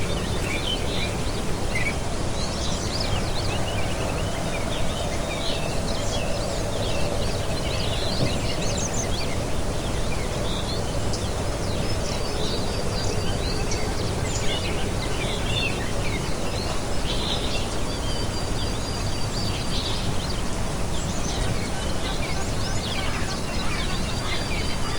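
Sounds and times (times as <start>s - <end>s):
small birds chirping: 0.0s - 24.9s
steady background hiss: 0.0s - 24.9s.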